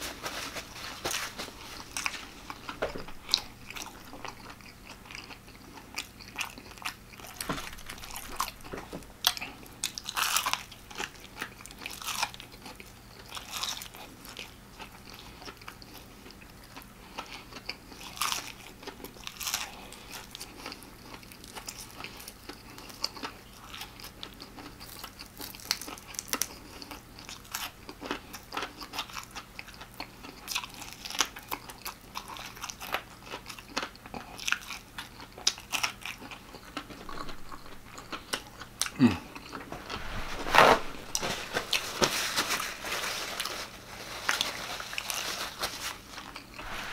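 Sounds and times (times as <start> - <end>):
crunching fried chicken: 0.0 - 40.0, 40.8 - 46.7
quiet chewing: 0.0 - 40.1.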